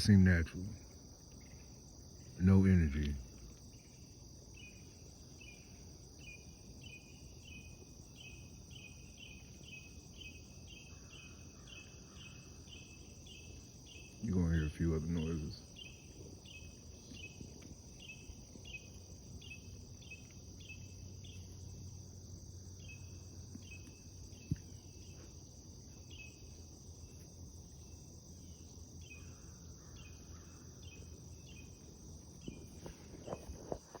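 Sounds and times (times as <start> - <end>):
insect chirps: 0.0 - 34.0
insect trilling: 0.0 - 34.0.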